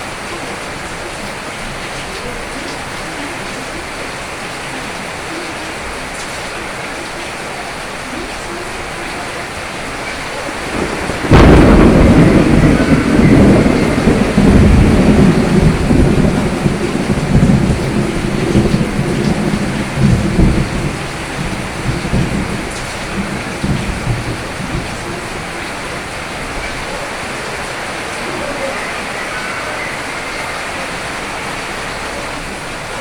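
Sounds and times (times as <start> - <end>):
steady rain: 0.0 - 33.0
thunder rumbling: 0.0 - 33.0.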